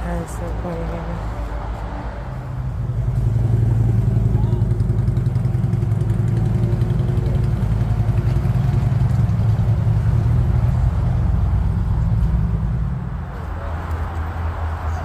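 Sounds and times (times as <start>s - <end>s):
car engine idling: 2.3s - 15.0s.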